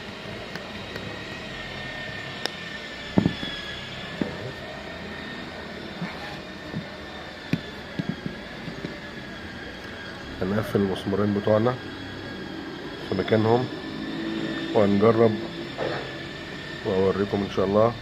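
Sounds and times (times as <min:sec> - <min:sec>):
faint high whine: 0:00.0 - 0:18.0
steady background hum: 0:00.0 - 0:18.0.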